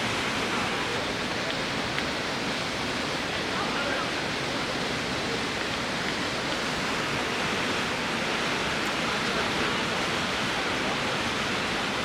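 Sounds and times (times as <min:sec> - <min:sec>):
waterfall and rushing river: 0:00.0 - 0:12.0.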